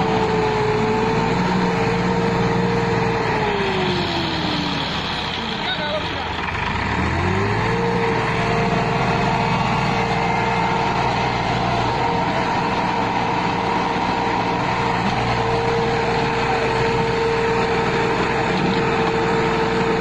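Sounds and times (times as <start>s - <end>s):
tractor engine revving: 0.0s - 20.0s.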